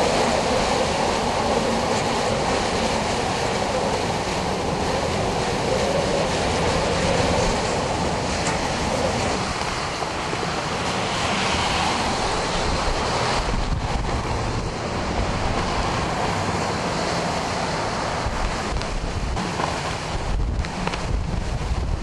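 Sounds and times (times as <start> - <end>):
wind buffeting microphone: 0.0 - 22.0
wind rushing: 0.0 - 22.0.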